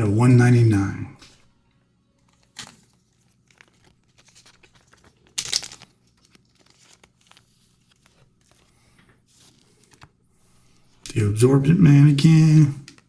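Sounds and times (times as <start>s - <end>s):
cards and wrapper rustling: 2.2s - 13.0s.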